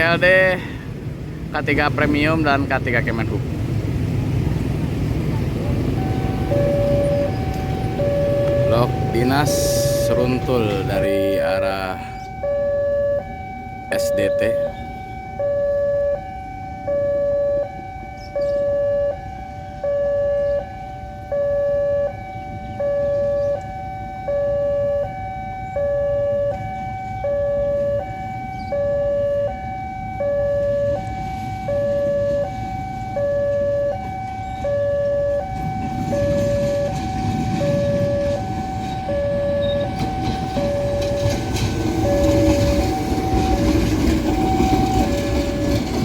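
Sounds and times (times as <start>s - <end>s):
low rumble of train: 0.0s - 46.0s
level crossing alarm two-tone: 5.8s - 45.8s.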